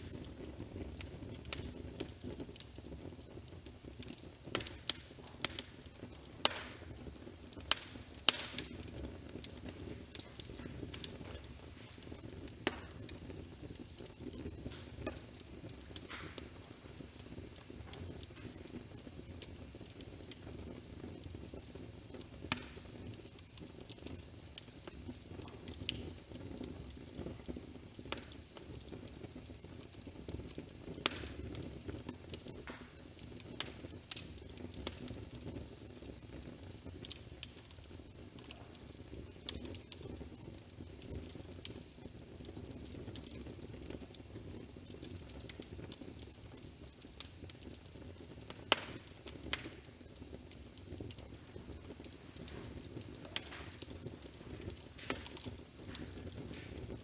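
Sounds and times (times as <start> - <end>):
fire low rumble: 0.0 - 57.0
wood fire popping and crackling: 0.0 - 57.0.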